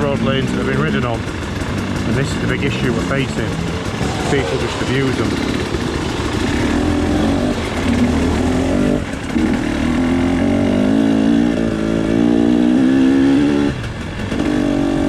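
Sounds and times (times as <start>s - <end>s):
two-stroke motorcycle revving: 0.0s - 15.0s.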